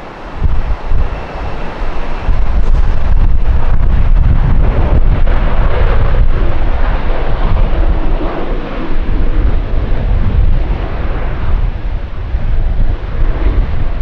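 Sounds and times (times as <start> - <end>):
jet engines roaring: 0.0 - 14.0
wind buffeting microphone: 0.0 - 14.0.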